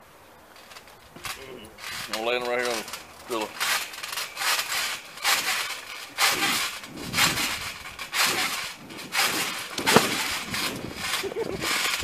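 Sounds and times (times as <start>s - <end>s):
trampoline creaking and rustling: 0.1s - 12.0s.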